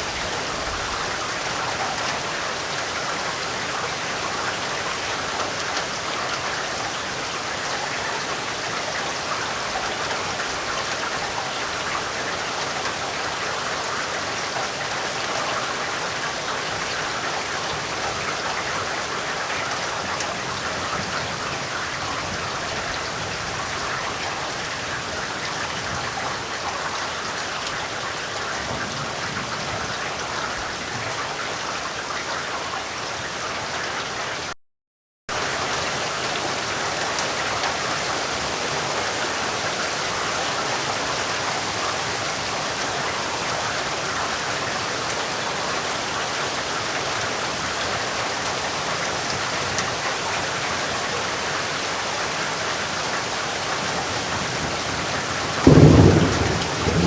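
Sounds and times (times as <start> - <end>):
steady rainfall: 0.0 - 34.6, 35.3 - 57.0.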